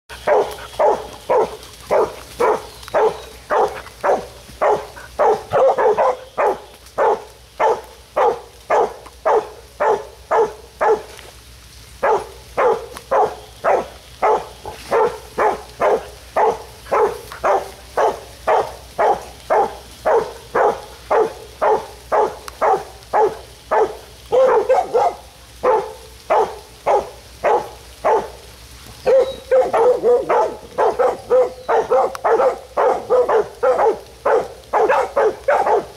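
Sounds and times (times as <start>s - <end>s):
puppies barking: 0.1s - 11.1s, 12.0s - 35.9s.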